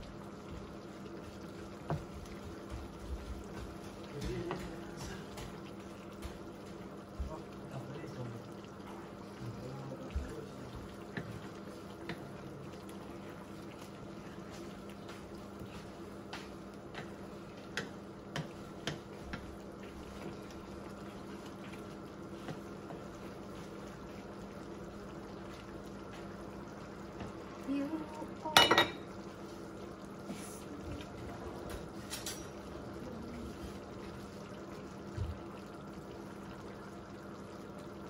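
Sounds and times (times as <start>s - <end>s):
sauce bubbling in a pan: 0.0s - 38.0s.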